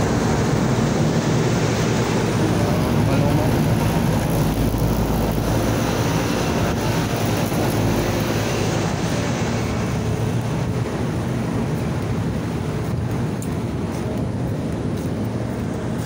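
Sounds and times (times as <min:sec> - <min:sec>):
condenser fans and compressors humming: 0:00.0 - 0:16.0.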